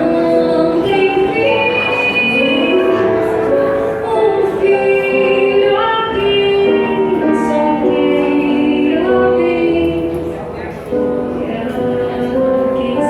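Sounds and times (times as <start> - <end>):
live band slow melody: 0.0 - 13.0.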